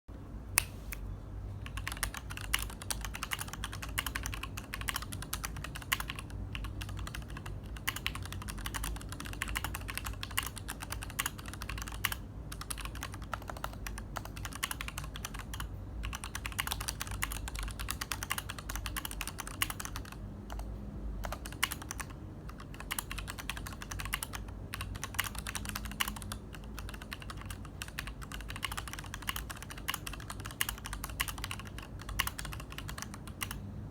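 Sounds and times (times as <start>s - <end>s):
mechanical keyboard typing: 1.6s - 33.6s.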